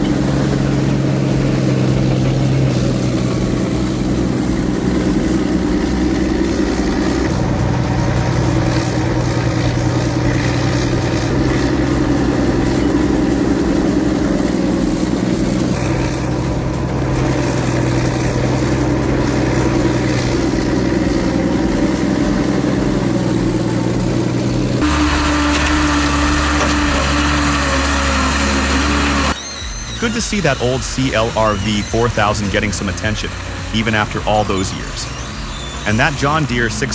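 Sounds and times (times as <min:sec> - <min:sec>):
diesel engines running: 0:00.0 - 0:36.9.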